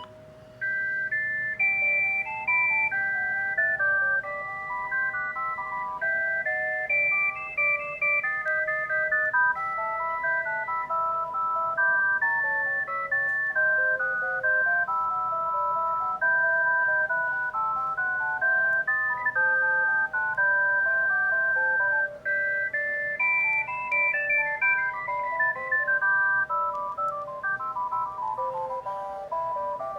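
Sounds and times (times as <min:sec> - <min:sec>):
polyphonic phone ringtone: 0:00.0 - 0:29.9.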